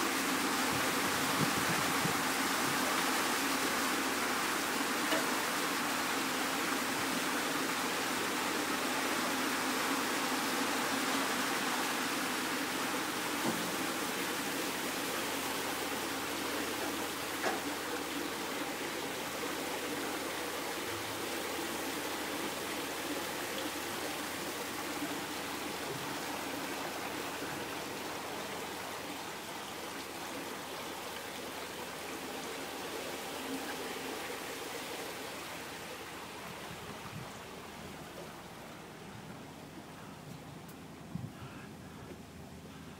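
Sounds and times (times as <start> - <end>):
water rushing through sluices: 0.0 - 41.1.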